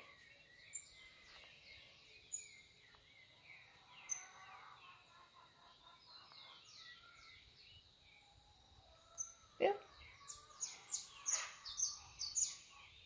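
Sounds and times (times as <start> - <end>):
small birds twittering: 0.0 - 13.0.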